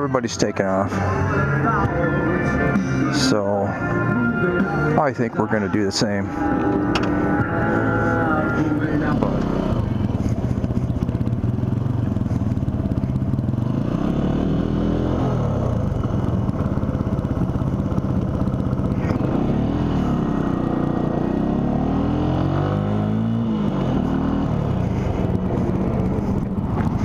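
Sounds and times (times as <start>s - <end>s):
motorcycle engine pulling away: 0.9s - 27.0s.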